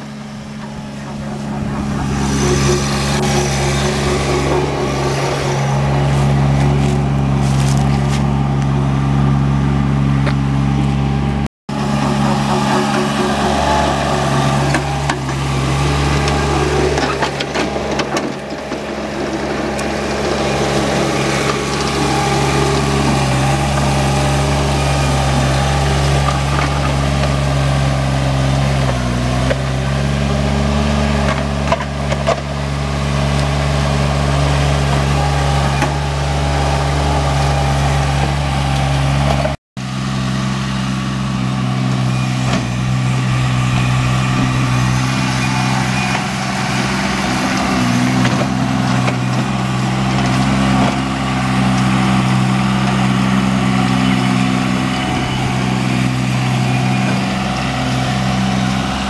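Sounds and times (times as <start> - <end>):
chain trencher digging soil: 0.0 - 9.1, 11.7 - 59.0
loader engine running under load: 0.0 - 59.0.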